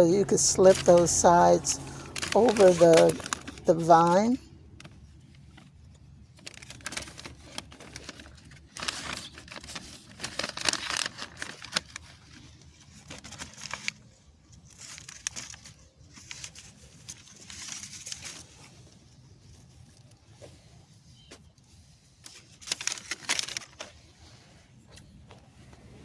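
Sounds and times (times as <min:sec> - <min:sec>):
paper bag crinkling: 0:00.0 - 0:20.2, 0:22.2 - 0:24.1.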